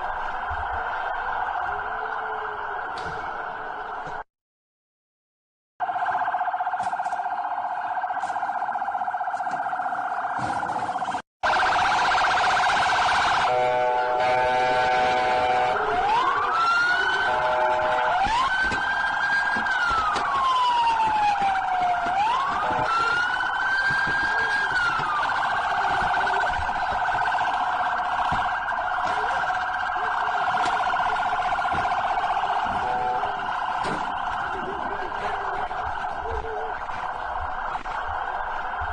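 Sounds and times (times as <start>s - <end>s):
electronic police siren: 0.0s - 4.2s, 5.8s - 38.9s.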